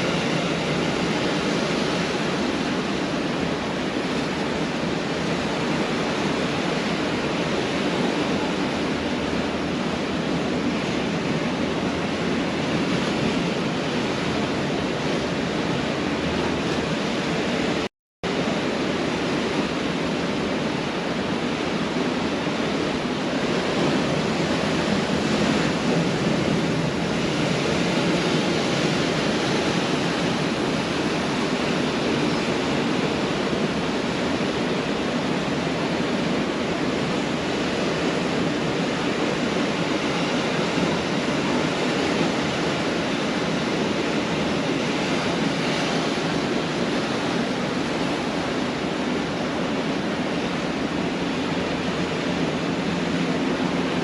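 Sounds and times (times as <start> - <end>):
surf breaking on a beach: 0.0 - 54.0.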